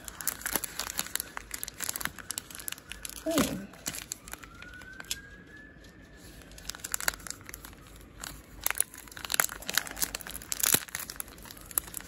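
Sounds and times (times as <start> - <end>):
packaging crackling rustles: 0.0 - 12.0.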